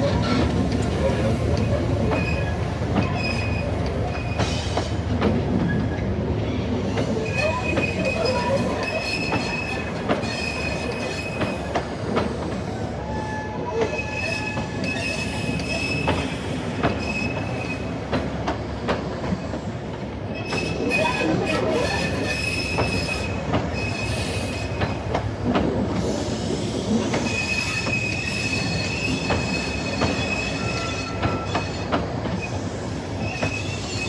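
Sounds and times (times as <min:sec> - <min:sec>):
train rumble: 0:00.0 - 0:34.0
train wheels squealing on rails: 0:00.0 - 0:34.0.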